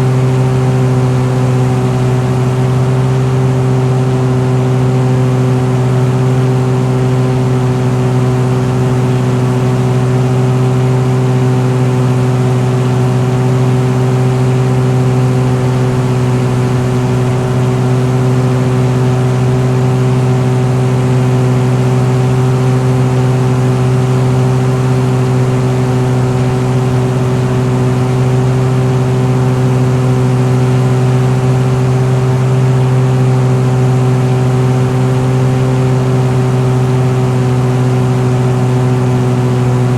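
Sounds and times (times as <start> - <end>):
piston engine droning: 0.0 - 39.9.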